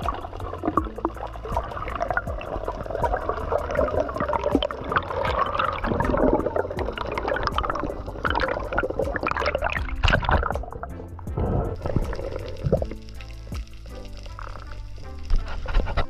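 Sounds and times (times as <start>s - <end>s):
water swishing and gurgling: 0.0s - 16.0s.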